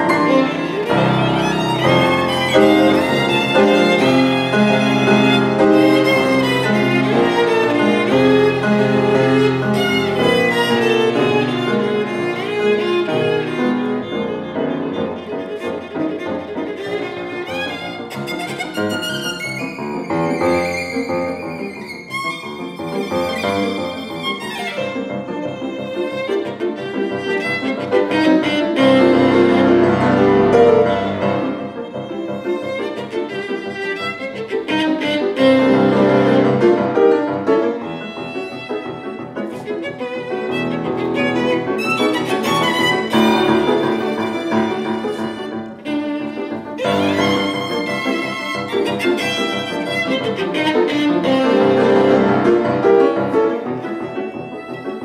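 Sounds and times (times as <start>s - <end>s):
violin and piano playing: 0.0s - 55.0s.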